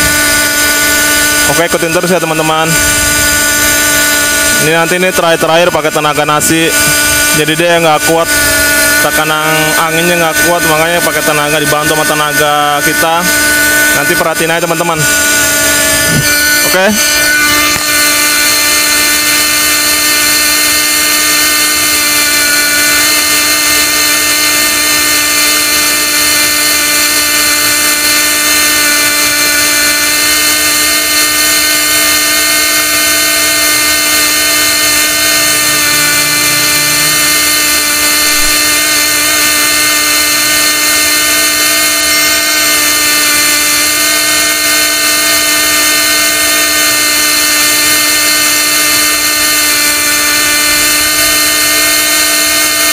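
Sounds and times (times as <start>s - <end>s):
pneumatic winch whine: 0.0s - 52.9s.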